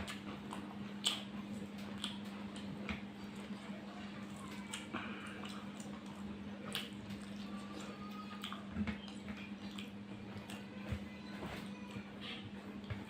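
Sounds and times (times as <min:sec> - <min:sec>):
wet chewing and smacking: 0:00.0 - 0:11.1
steady low hum: 0:00.0 - 0:13.0.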